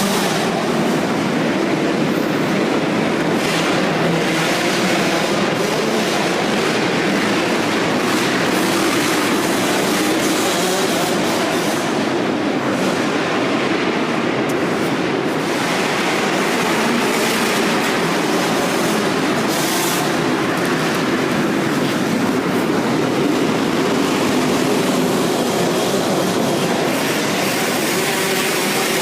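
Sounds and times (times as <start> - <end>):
motocross bike engines droning: 0.0 - 29.0.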